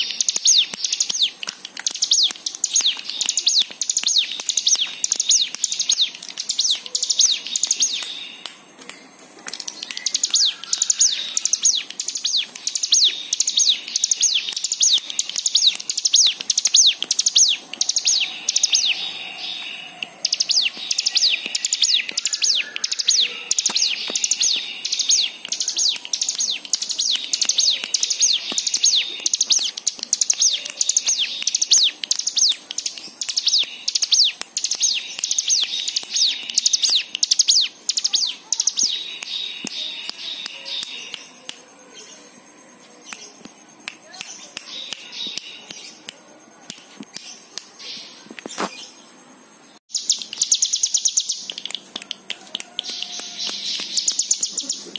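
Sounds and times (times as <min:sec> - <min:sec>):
bird singing sharp chirps: 0:00.0 - 0:08.5, 0:09.5 - 0:43.4, 0:49.8 - 0:51.8, 0:52.7 - 0:54.9.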